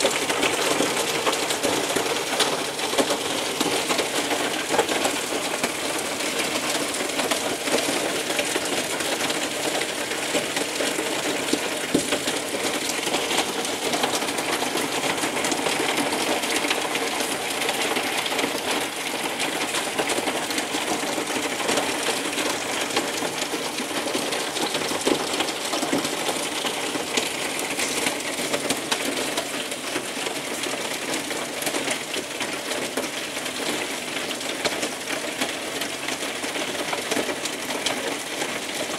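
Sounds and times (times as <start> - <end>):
hail and rain pelting: 0.0 - 38.9.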